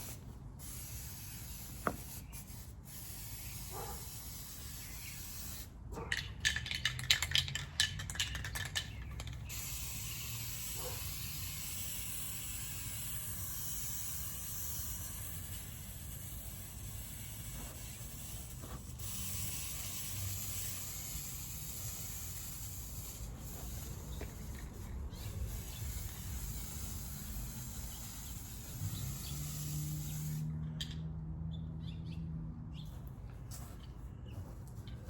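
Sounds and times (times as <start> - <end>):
spray paint hissing: 0.0 - 31.0.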